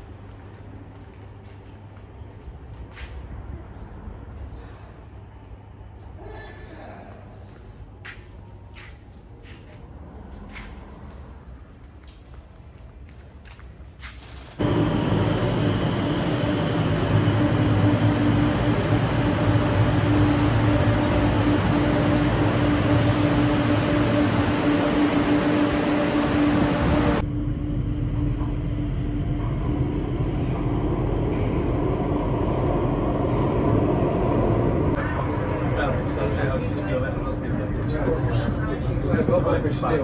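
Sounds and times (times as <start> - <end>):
metro train rumble: 0.0 - 40.0
rumble inside metro carriage: 0.0 - 40.0.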